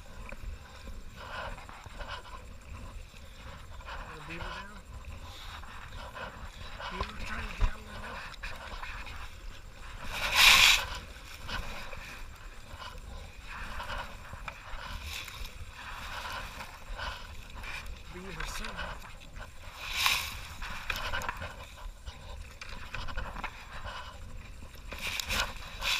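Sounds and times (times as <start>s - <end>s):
paddle strokes in water: 0.0s - 25.9s.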